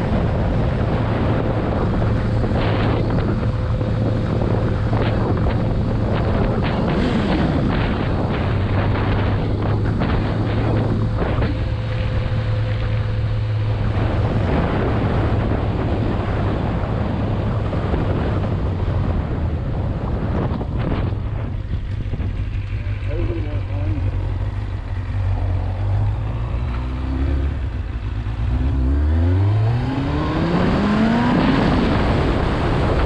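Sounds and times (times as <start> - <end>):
motorcycle engine drone: 0.0 - 33.0
wind buffeting microphone: 0.0 - 33.0.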